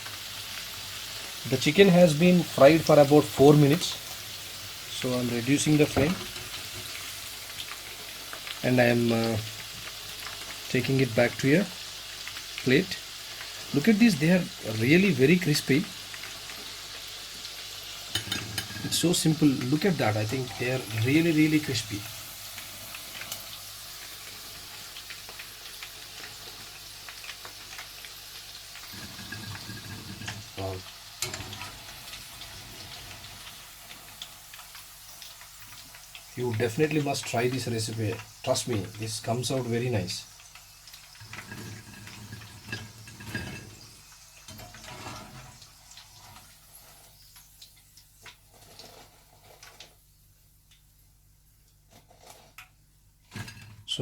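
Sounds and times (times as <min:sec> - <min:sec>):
food deep-frying in hot oil: 0:00.0 - 0:54.0.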